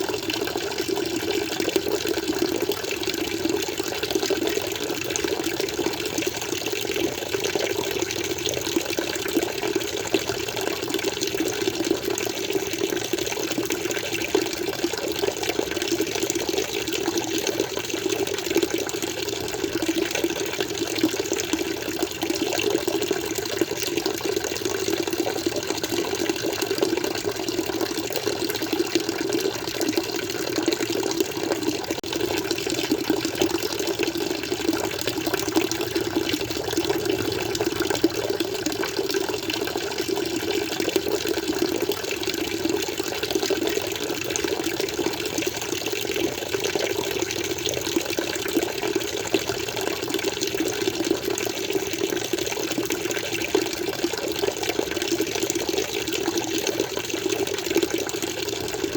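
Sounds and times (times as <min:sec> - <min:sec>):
water flowing: 0:00.0 - 0:58.9.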